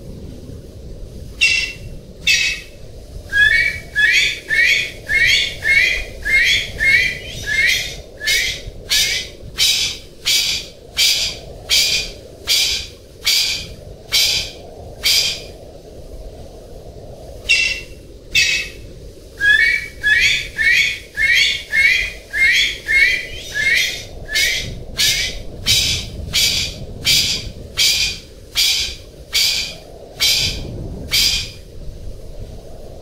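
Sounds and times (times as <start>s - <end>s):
pheasant calling: 1.4s - 15.6s, 17.4s - 18.8s, 19.4s - 31.6s.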